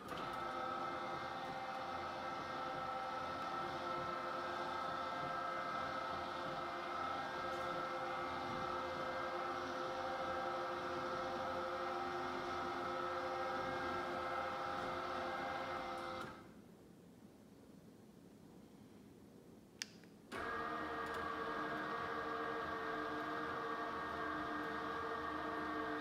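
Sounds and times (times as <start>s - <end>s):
electric shade motors humming: 0.0s - 16.4s, 20.3s - 26.0s.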